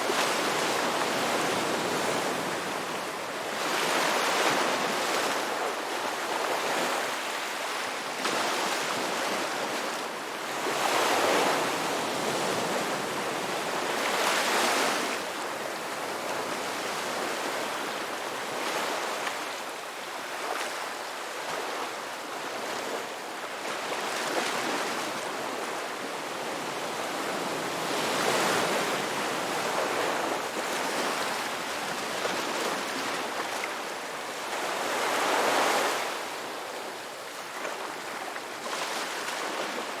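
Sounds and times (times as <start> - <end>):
ocean waves breaking on beach: 0.0 - 40.0.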